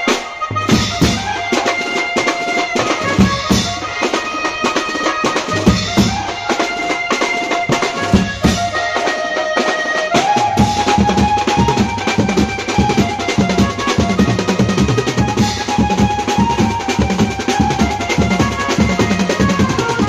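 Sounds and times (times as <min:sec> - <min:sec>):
drum kit playing fast patterns: 0:00.0 - 0:20.0
wind instruments holding long notes: 0:00.0 - 0:20.0.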